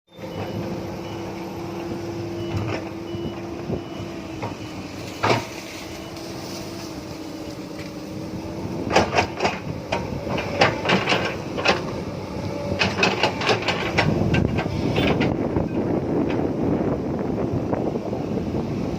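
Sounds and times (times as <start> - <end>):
excavator clanks and knocks: 0.1 - 7.0, 7.6 - 16.9
diesel engine running: 0.1 - 18.9.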